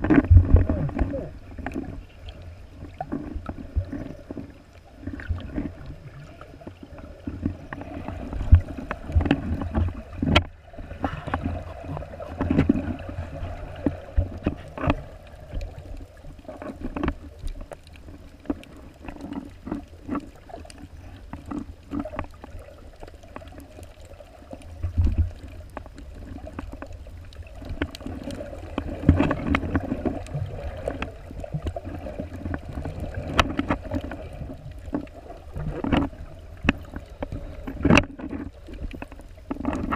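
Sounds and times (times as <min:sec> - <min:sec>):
underwater rumble and sloshing: 0:00.0 - 0:39.9.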